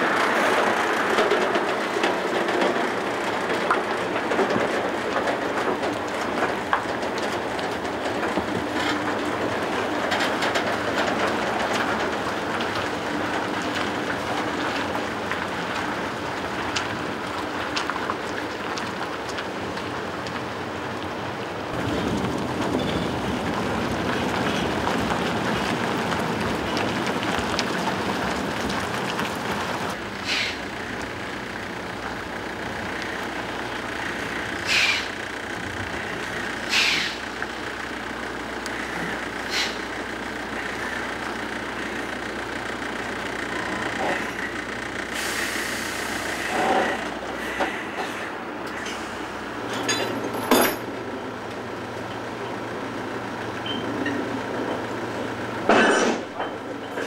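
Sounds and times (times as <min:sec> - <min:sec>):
truck engine rumbling: 0:00.0 - 0:57.0
tyres rolling: 0:00.0 - 0:57.0.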